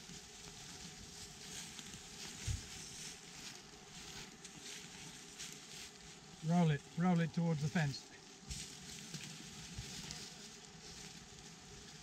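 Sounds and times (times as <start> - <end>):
faint rustling: 0.0 - 12.0
footsteps: 0.0 - 12.0.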